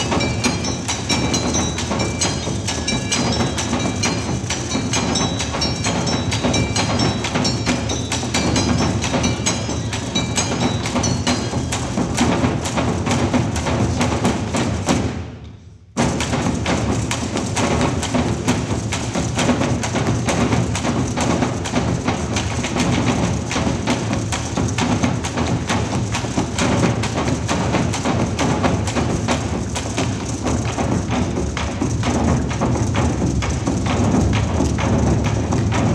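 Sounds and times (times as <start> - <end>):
drumming on wooden barrels: 0.0 - 15.4, 16.0 - 35.9.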